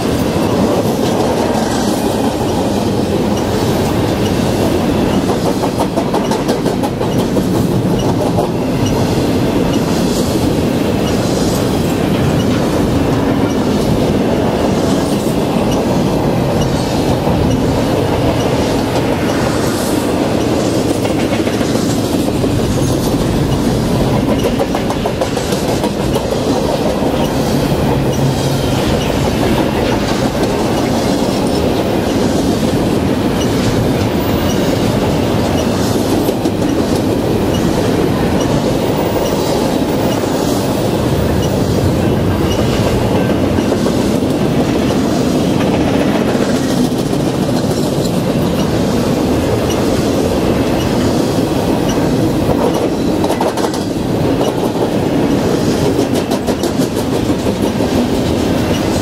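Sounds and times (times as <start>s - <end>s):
freight train rumbling past: 0.0s - 59.0s
steel wheels clattering on rails: 0.0s - 59.0s.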